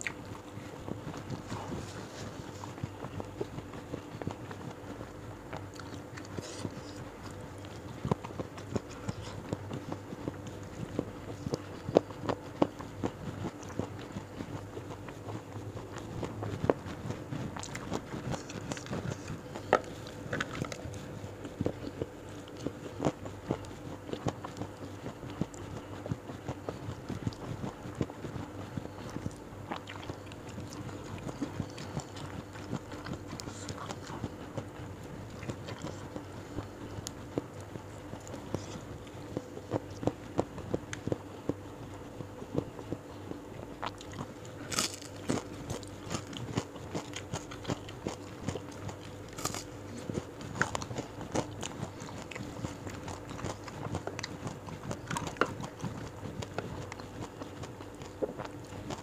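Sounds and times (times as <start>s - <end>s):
chewing crunchy food: 0.0s - 59.0s.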